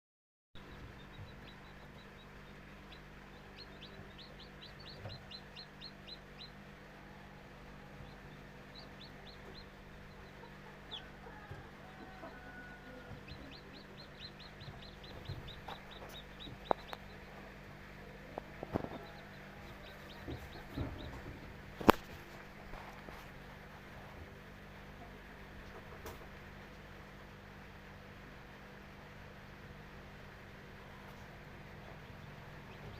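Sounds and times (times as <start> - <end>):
chicks peeping: 0.6 - 28.1, 28.9 - 32.9
steady low hum: 0.6 - 32.9.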